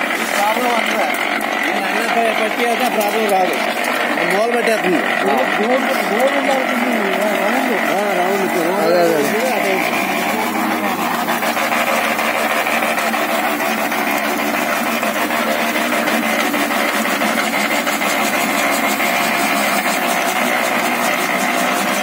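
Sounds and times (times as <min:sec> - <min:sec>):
grain dryer mechanical drone: 0:00.0 - 0:22.0.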